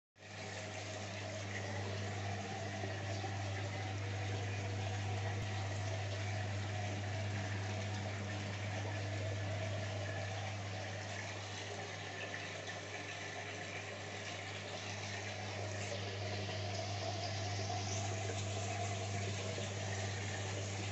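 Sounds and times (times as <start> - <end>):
steady low hum: 0.2 - 20.9
water splashing from pipe: 0.2 - 20.9.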